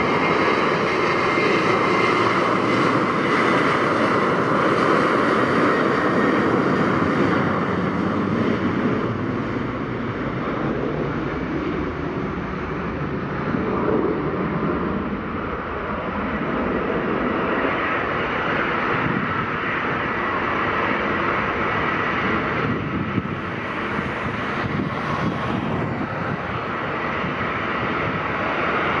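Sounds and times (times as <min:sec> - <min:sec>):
airliner engines running: 0:00.0 - 0:29.0.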